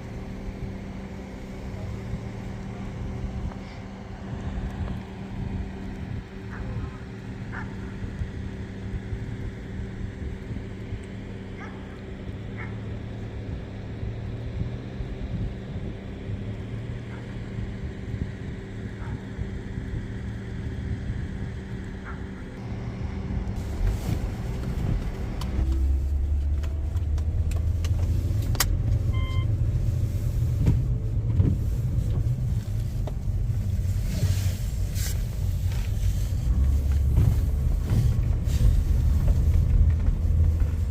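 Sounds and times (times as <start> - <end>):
motor vehicle running: 0.0 - 40.9.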